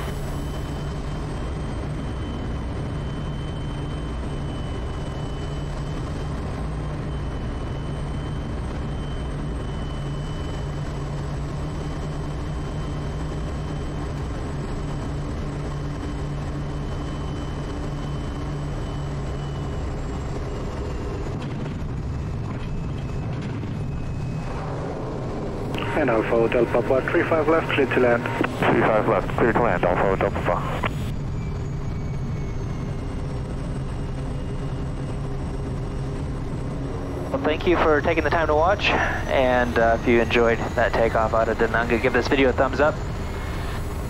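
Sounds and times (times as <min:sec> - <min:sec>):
high turbine whine: 0:00.0 - 0:44.0
propeller drone: 0:00.0 - 0:44.0.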